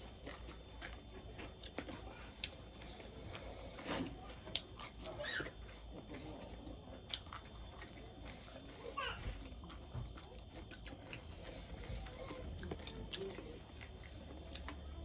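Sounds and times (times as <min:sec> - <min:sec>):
chewing with small crackles: 0:00.0 - 0:15.0.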